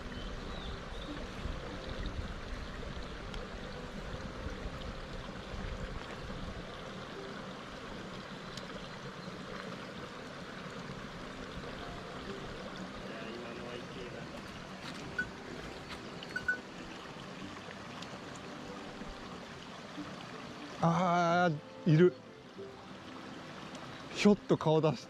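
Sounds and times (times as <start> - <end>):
stream water running over rocks: 0.0 - 25.0.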